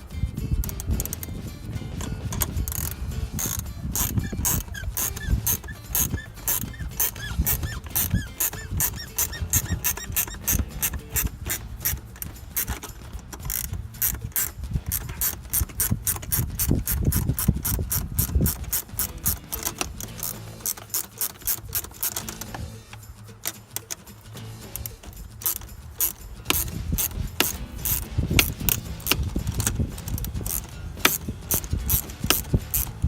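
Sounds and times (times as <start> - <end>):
socket ratchet clicking: 0.6 - 33.0.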